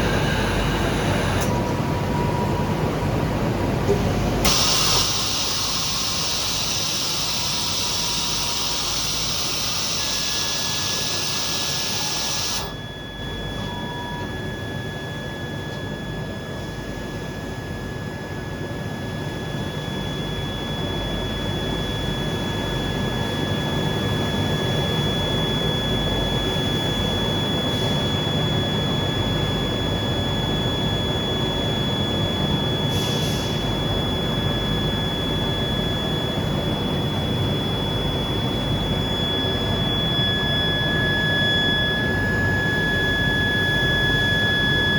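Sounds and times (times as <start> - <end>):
machine running with low rumble: 0.0 - 44.9
thin steady whines: 0.0 - 44.9.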